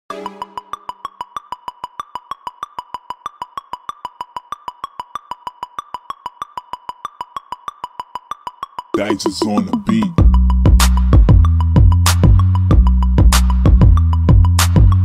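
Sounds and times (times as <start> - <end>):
synth ticking pattern: 0.1 - 12.9.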